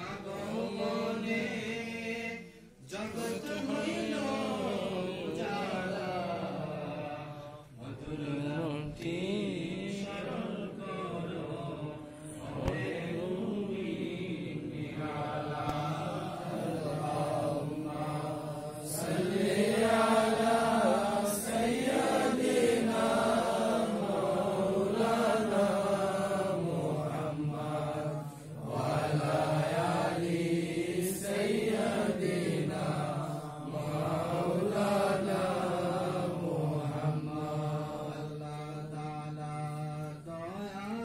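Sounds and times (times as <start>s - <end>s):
men chanting devotional recitation: 0.0s - 41.0s.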